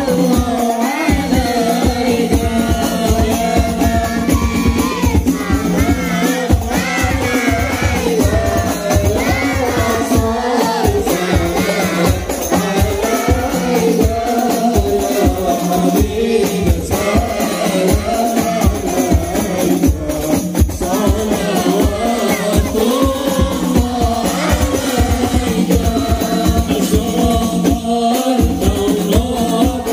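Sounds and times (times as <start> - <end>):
group singing in unison: 0.0 - 29.9.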